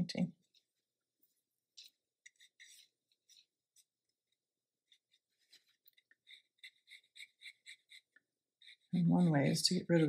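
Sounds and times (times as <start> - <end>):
watercolour brush scratching paper: 0.4 - 10.0.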